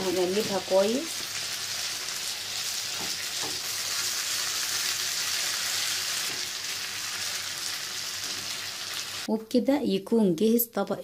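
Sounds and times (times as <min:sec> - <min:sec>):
food sizzling in frying pan: 0:00.0 - 0:09.3.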